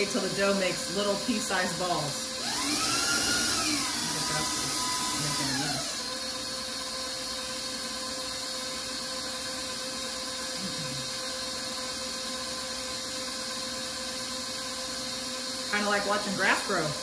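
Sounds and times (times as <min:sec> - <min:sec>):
stand mixer motor whine: 0:00.0 - 0:17.0.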